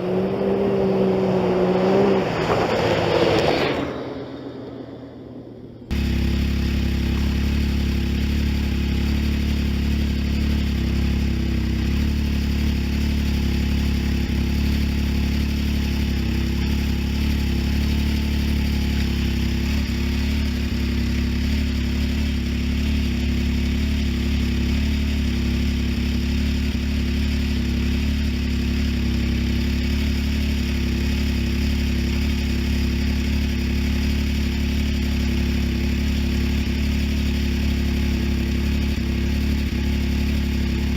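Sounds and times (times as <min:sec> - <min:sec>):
engine idling through exhaust: 0:05.3 - 0:40.9.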